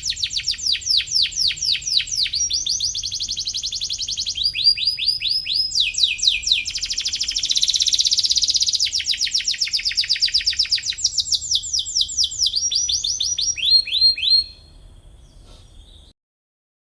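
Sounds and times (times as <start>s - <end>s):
canary singing trills: 0.0s - 16.1s.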